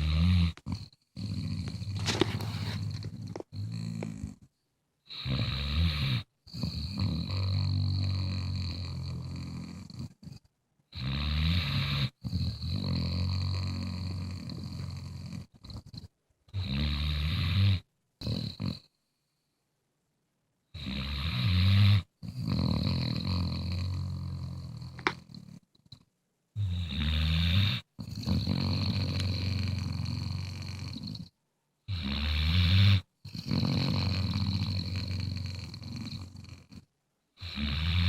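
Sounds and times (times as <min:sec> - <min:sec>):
dog snoring: 0:00.0 - 0:04.5, 0:05.1 - 0:19.0, 0:20.7 - 0:26.0, 0:26.6 - 0:38.0.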